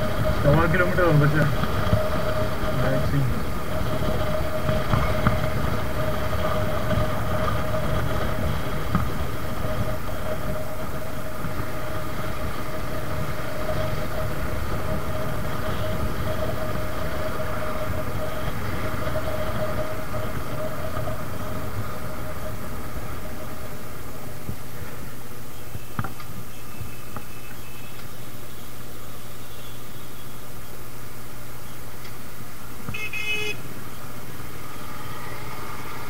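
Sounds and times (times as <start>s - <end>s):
motorcycle engine running: 0.0s - 30.3s
wind rumbling on microphone: 0.0s - 36.0s.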